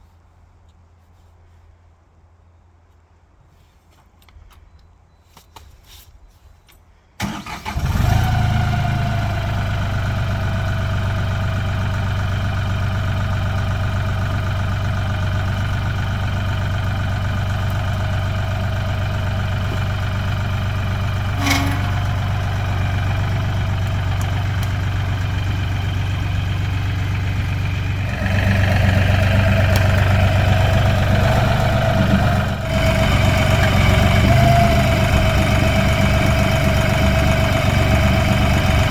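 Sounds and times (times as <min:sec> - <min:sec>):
tractor diesel engine starting and idling: 0:07.2 - 0:38.9.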